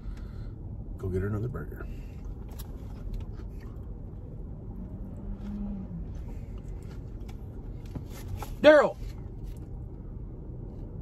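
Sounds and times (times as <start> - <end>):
low car rumble: 0.0 - 11.0.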